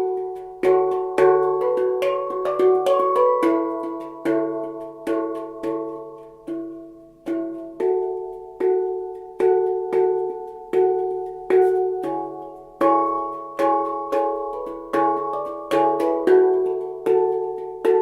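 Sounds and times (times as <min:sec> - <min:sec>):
handpan notes struck by hand: 0:00.0 - 0:18.0.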